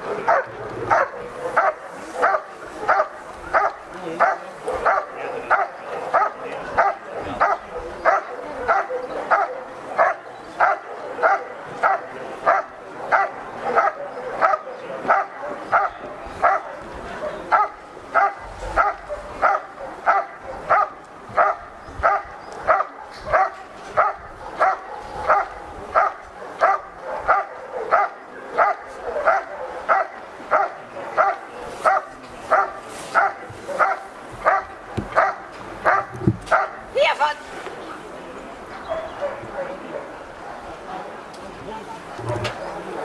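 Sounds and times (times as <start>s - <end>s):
dog barking rhythmically: 0.0s - 36.9s.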